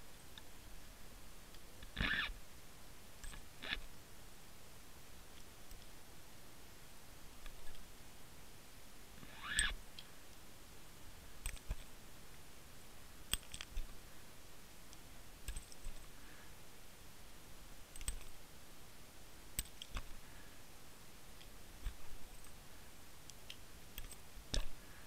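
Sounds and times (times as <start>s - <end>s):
faint hiss: 0.0s - 25.0s.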